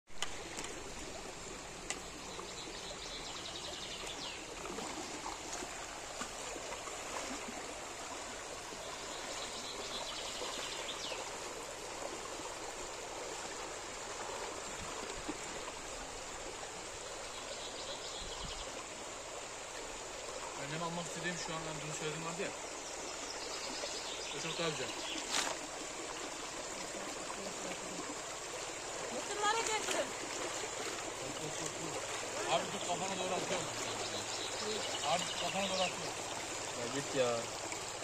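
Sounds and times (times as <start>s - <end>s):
stream rushing over rocks: 0.1s - 38.0s.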